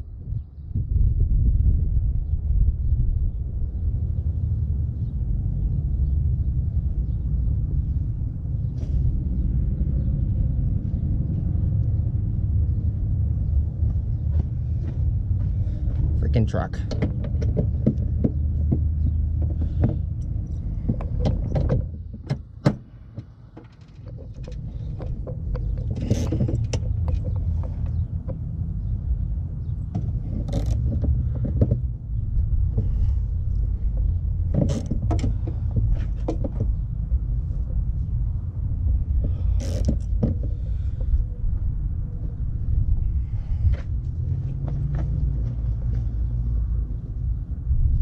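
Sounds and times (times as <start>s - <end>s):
steady low rumble: 0.0s - 48.0s.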